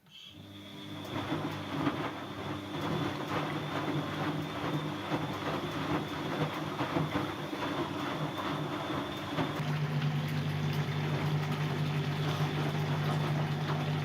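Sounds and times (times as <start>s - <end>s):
washing machine motor whine: 0.0s - 14.0s.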